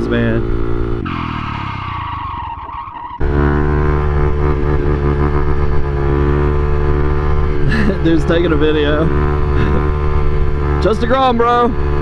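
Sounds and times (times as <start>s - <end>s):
motorcycle engine running: 0.0s - 2.6s, 3.2s - 12.0s.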